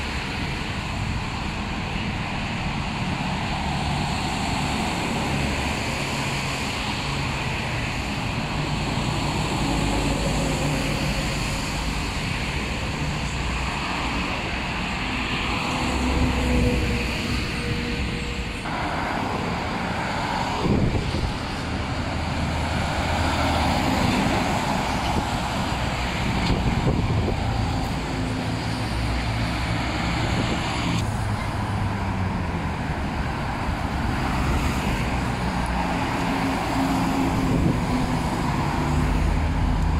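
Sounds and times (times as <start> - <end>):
traffic engine rumble and tyre noise: 0.0 - 39.9.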